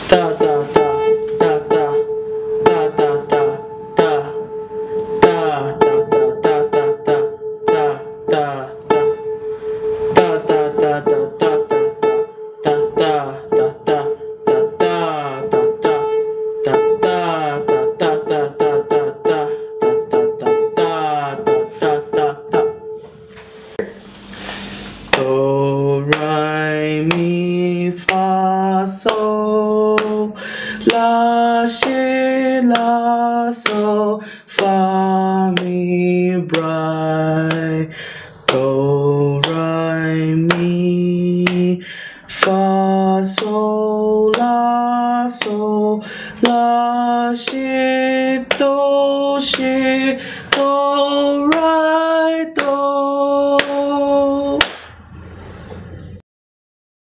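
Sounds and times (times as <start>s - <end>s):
man singing single notes: 0.0s - 24.0s, 25.1s - 54.7s.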